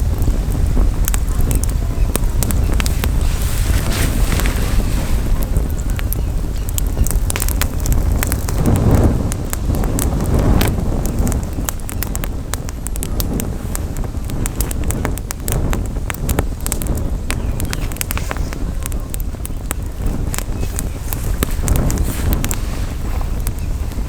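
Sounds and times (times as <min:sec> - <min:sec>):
campfire crackling and popping: 0:00.0 - 0:24.0
wind buffeting microphone: 0:00.0 - 0:24.0.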